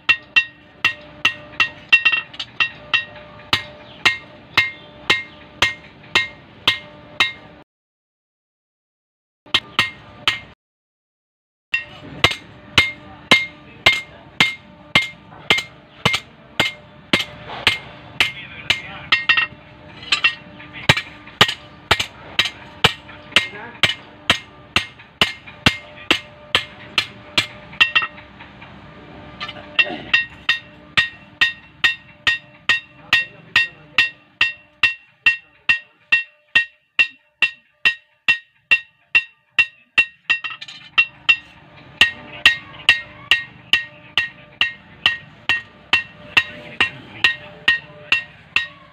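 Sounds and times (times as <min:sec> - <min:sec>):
hammer striking blade on anvil: 0:00.0 - 0:07.6, 0:09.5 - 0:10.6, 0:11.8 - 0:28.3, 0:29.4 - 0:48.9.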